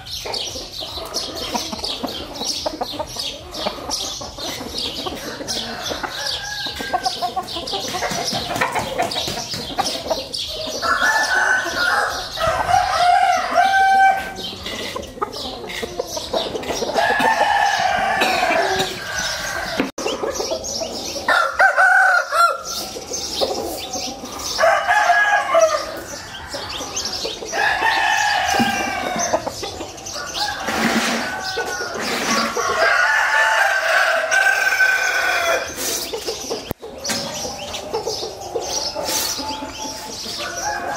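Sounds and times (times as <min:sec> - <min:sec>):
roosters crowing: 0:00.0 - 0:40.9.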